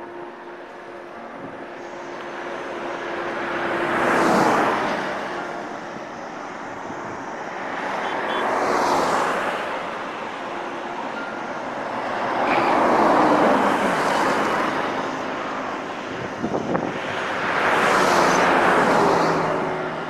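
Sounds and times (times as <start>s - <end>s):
vehicles passing close by: 0.0s - 20.0s.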